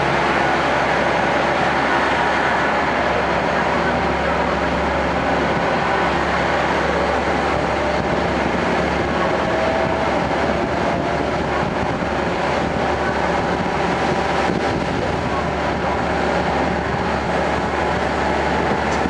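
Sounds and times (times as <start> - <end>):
railcar engine drone: 0.0 - 19.0
wheel and rail noise: 0.0 - 19.0.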